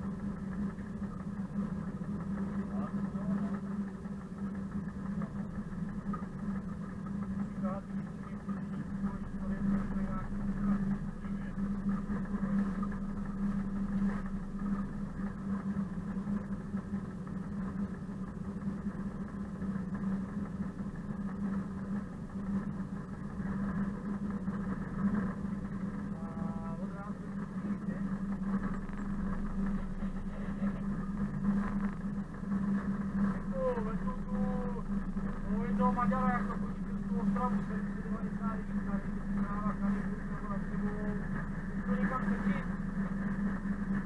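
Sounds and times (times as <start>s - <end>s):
diesel locomotive engine droning: 0.0s - 44.0s.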